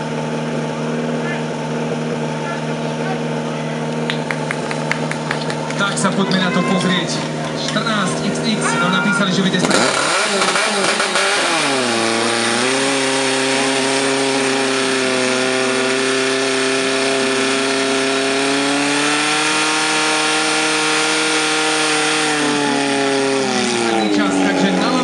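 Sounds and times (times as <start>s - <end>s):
fire pump engine at full throttle: 0.0s - 25.0s.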